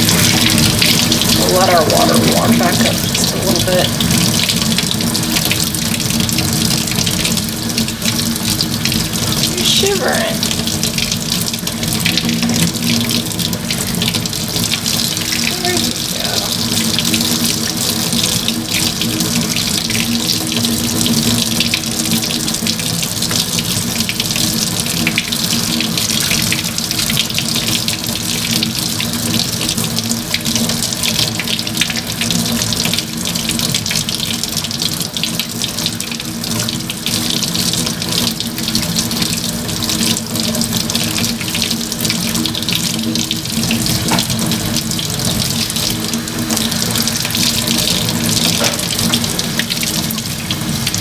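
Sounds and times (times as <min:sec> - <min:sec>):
faucet water running: 0:00.0 - 0:51.0.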